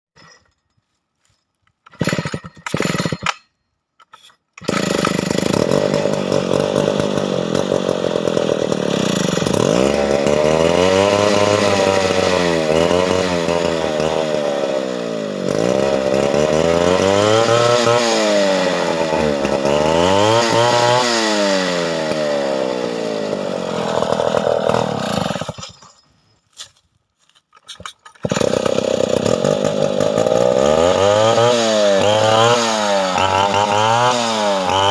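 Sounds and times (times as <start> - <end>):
chainsaw engine revving: 1.9 - 3.4, 4.6 - 26.0, 27.8 - 34.9.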